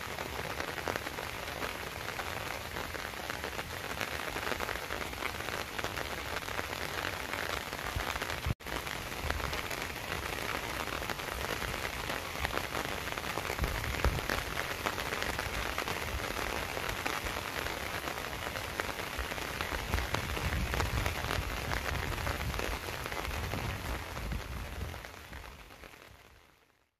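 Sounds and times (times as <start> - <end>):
steady rain hiss: 0.0 - 26.8.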